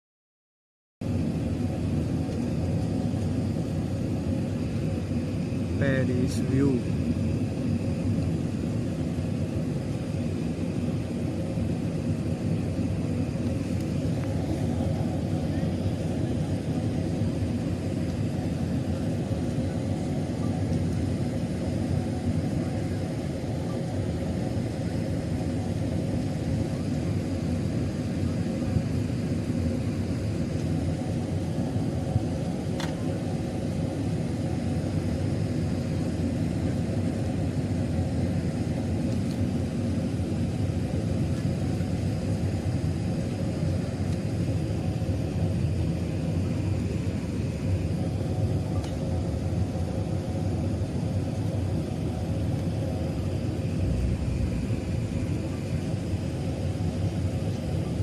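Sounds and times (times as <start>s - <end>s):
airplane cabin engine rumble: 1.0s - 58.0s.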